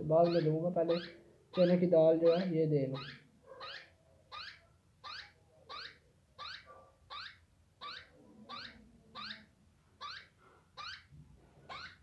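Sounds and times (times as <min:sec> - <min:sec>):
parakeet chick chirping: 0:00.0 - 0:11.1, 0:11.7 - 0:12.0.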